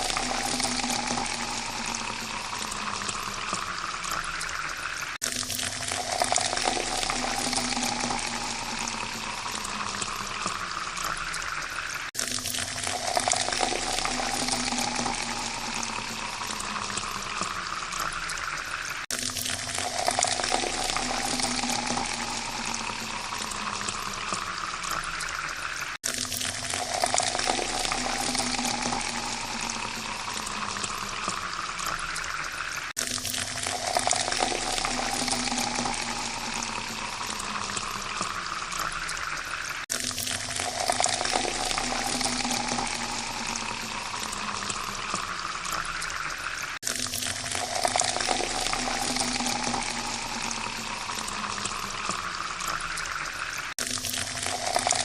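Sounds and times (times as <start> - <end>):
water pouring into a glass: 0.0 - 55.0.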